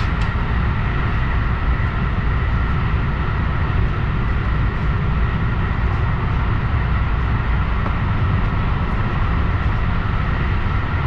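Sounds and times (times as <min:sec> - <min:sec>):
faint steady whine: 0:00.0 - 0:11.0
train wheels rumbling on rails: 0:00.0 - 0:11.0.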